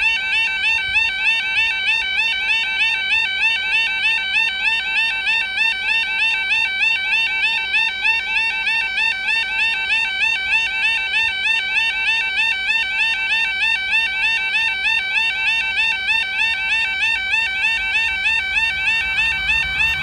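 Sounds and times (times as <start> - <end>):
electronic yelping warning alarm: 0.0 - 20.0.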